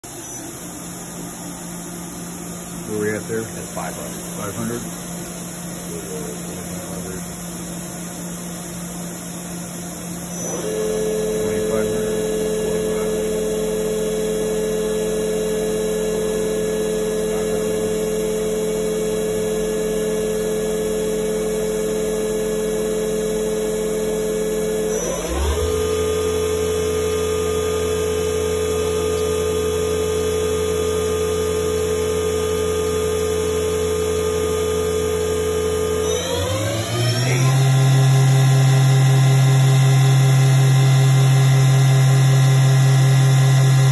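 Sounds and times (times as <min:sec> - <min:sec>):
machine spindle whining: 0:00.0 - 0:43.9.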